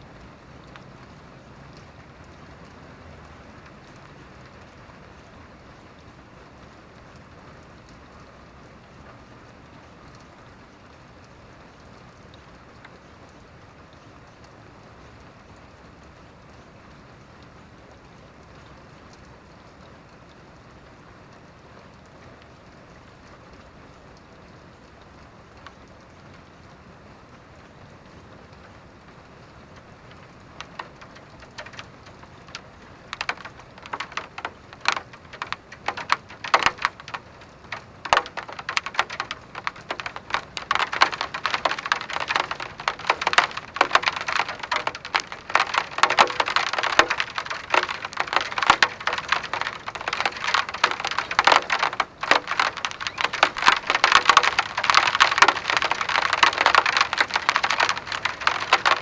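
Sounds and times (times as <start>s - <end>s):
rain drops on hard surface: 0.0s - 59.0s.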